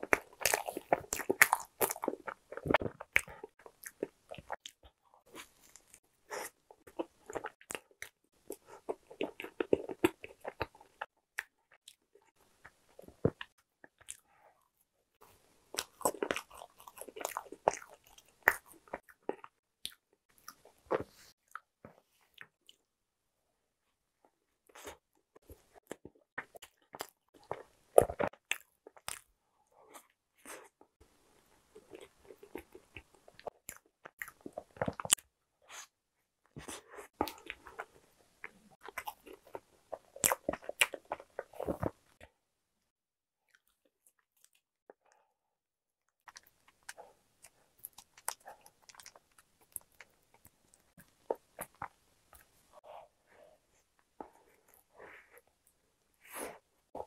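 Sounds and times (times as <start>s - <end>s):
person chewing bread: 0.0s - 22.8s, 24.6s - 42.3s, 46.2s - 57.0s.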